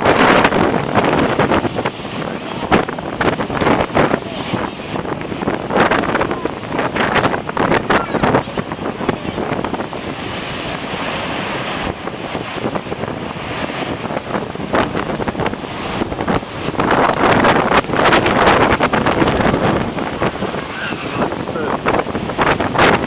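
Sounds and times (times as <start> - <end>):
storm wind buffeting microphone: 0.0 - 23.0
waves breaking against wall: 0.0 - 23.0.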